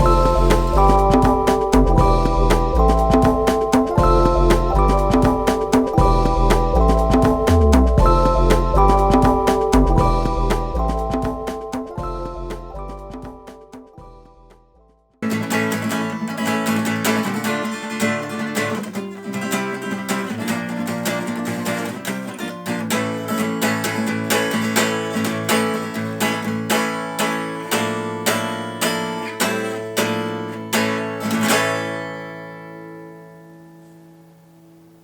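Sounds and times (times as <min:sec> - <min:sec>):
acoustic guitar strumming: 0:00.0 - 0:14.6, 0:15.2 - 0:34.1.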